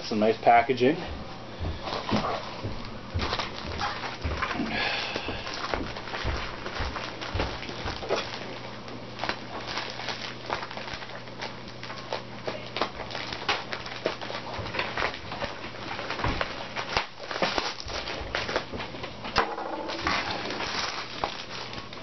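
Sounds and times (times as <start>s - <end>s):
bubble wrap crackling: 1.8s - 19.3s, 19.9s - 22.0s.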